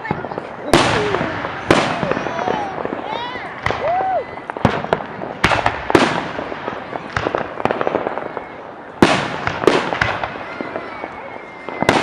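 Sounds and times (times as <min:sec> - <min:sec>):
fireworks bangs with echo: 0:00.0 - 0:12.0
fireworks popping and crackling: 0:00.0 - 0:12.0.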